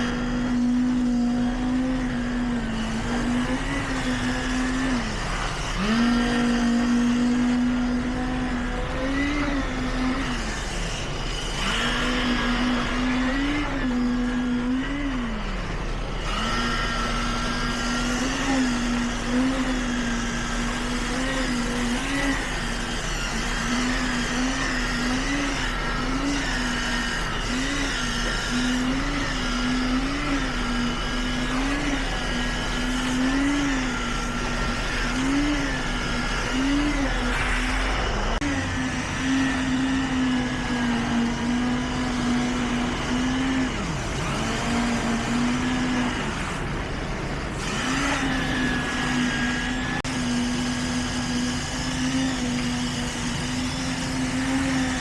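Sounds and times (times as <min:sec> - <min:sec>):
construction machine engine running: 0:00.0 - 0:55.0.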